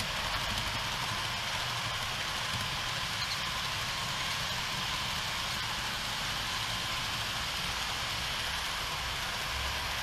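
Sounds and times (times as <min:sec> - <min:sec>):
model train wheels rolling: 0:00.0 - 0:10.0.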